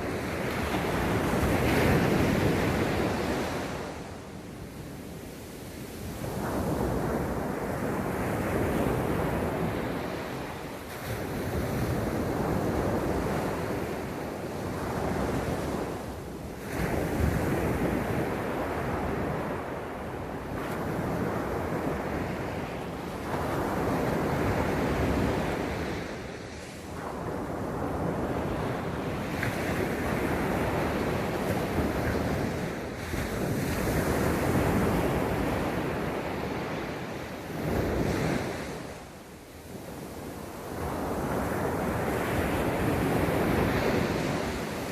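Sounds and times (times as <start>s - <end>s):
sea waves breaking ashore: 0.0s - 44.9s.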